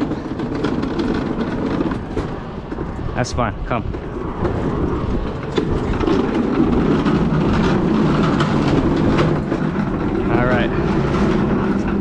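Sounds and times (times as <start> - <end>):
unit rumbling and rattling on concrete: 0.0 - 12.0.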